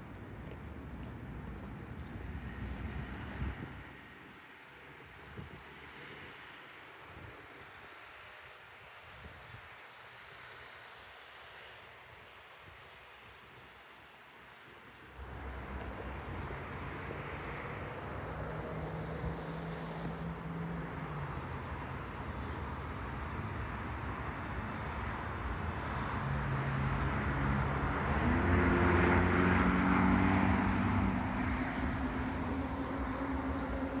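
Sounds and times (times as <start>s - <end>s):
train rumble with low hum: 0.0s - 26.5s, 30.4s - 34.0s.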